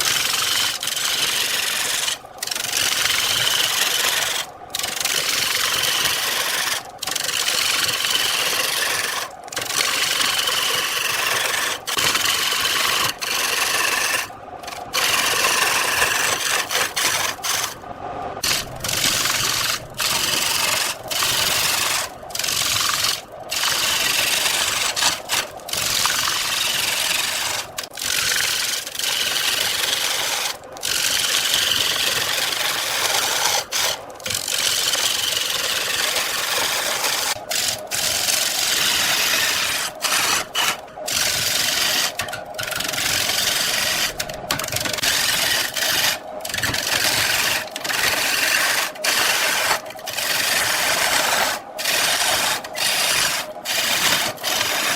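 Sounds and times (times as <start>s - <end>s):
lathe tool scraping wood: 0.0s - 17.8s, 18.4s - 54.9s.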